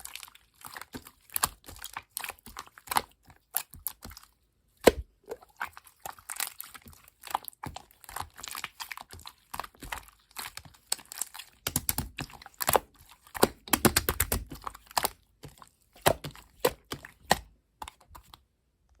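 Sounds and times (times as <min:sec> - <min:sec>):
slime squishing with clicks and pops: 0:00.0 - 0:18.5.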